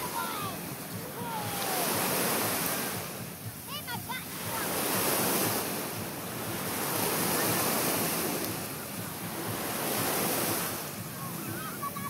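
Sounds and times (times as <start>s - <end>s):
small waves washing onto beach: 0.0s - 12.0s.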